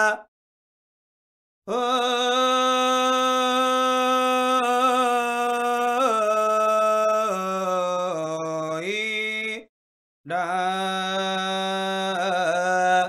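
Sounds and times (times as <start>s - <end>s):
person chanting a long vowel: 1.7s - 9.6s, 10.3s - 13.0s.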